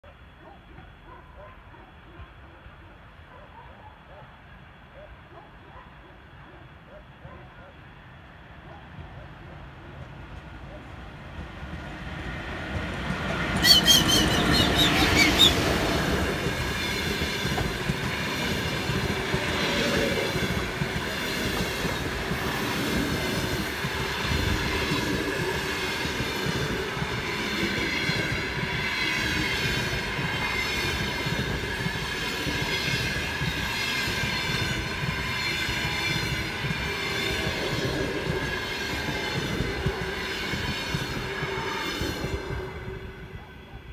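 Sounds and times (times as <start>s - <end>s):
electric locomotive passing: 0.0s - 43.9s
passenger coaches rumbling by: 6.0s - 43.9s.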